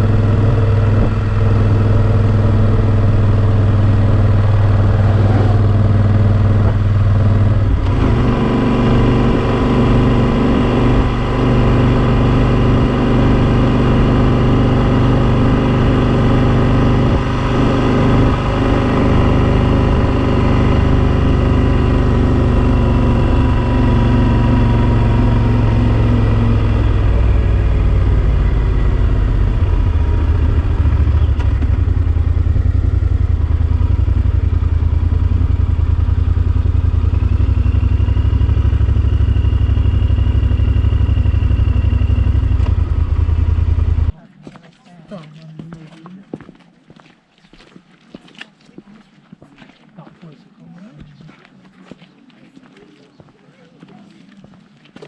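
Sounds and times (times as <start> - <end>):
motorcycle engine running: 0.0 - 44.6.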